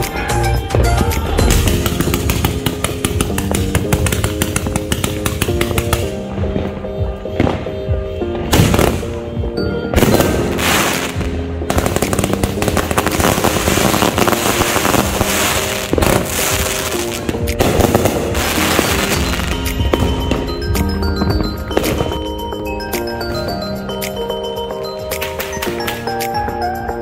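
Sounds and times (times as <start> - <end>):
fireworks bangs and crackling: 0.0 - 24.3
background music: 0.0 - 27.0.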